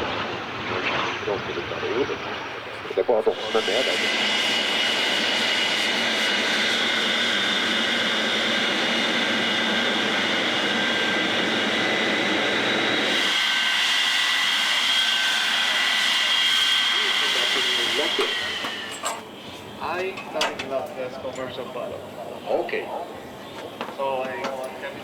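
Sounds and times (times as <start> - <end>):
high turbine whine: 0.0 - 25.0
jet engine rush: 0.0 - 25.0.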